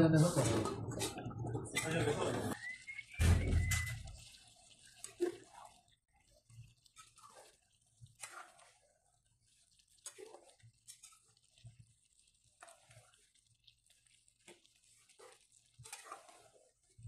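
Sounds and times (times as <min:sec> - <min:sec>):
spoon stirring thick curry: 0:02.6 - 0:17.0.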